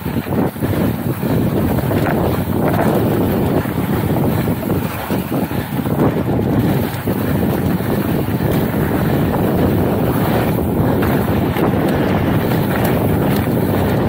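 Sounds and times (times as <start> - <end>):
bike tyres crunching on dirt: 0.0 - 14.0
wind buffeting microphone: 0.0 - 14.0.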